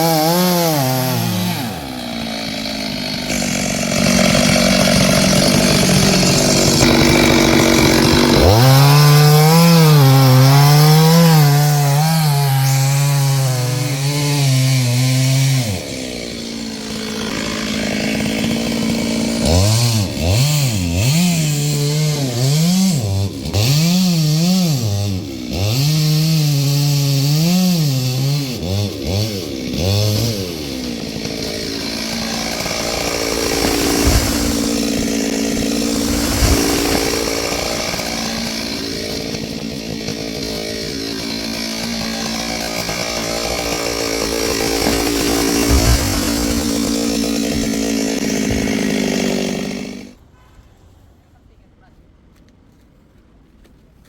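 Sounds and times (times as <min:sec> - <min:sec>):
chainsaw revving: 0:00.0 - 0:50.2.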